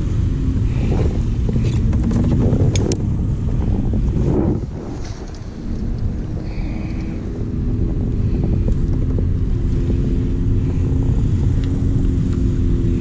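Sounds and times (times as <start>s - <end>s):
kayak drive humming: 0.0s - 13.0s
wind rumble on microphone: 0.0s - 13.0s.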